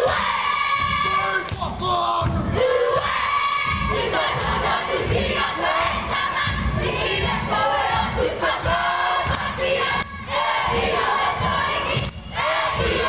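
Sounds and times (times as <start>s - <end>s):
group chanting and shouting: 0.0s - 13.0s.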